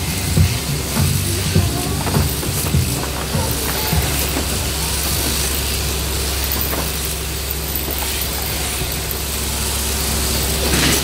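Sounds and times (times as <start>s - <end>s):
shearing machine motor hum: 0.0s - 11.0s.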